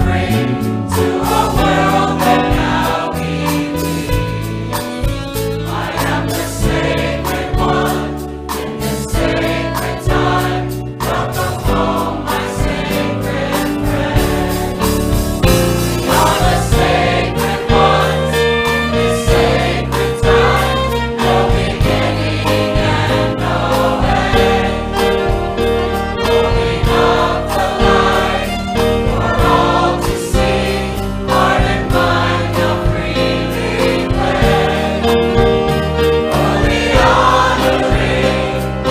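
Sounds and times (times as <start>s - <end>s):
choir singing: 0.0s - 4.4s, 5.5s - 38.9s.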